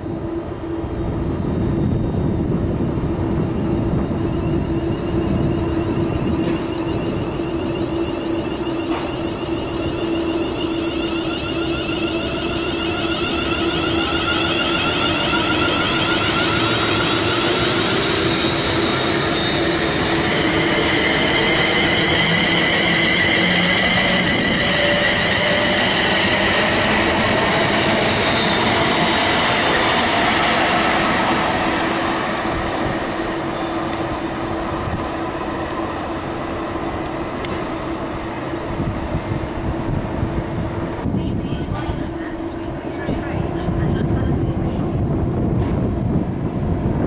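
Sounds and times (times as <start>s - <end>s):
high whining train tones: 0.0s - 47.0s
train wheels rumbling on rail: 0.0s - 47.0s.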